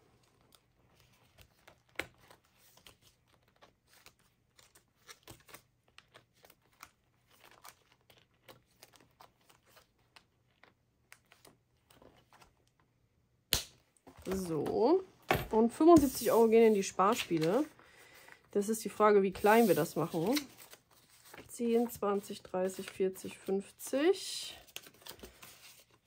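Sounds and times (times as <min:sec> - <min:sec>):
plastic envelopes rustling and clicking: 0:00.2 - 0:13.0, 0:15.7 - 0:26.0.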